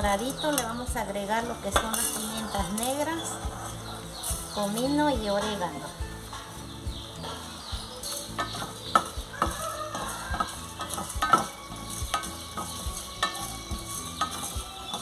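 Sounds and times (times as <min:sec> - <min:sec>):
spatula scraping a pan: 0:00.0 - 0:15.0
spices sizzling in a pan: 0:00.0 - 0:15.0.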